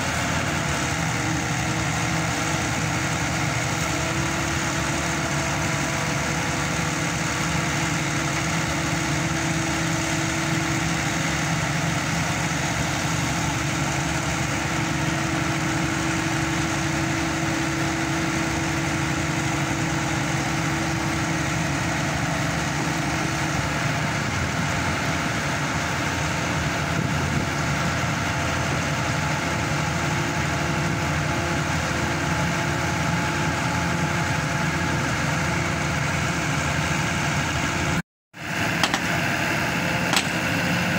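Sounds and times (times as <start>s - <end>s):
pile driver engine running: 0.0s - 40.9s.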